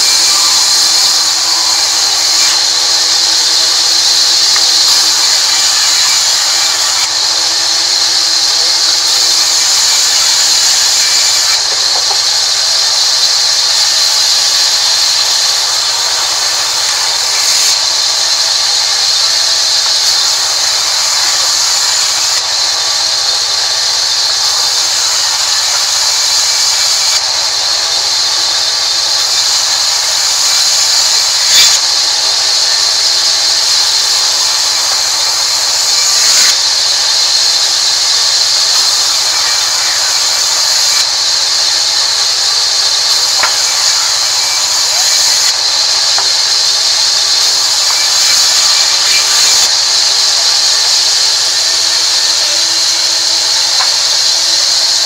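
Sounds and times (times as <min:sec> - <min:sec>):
band saw cutting wood: 0:00.0 - 0:55.0.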